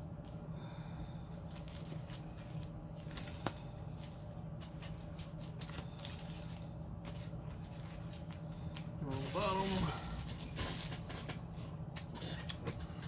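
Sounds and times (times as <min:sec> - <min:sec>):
comic books rustling: 0:01.4 - 0:13.0.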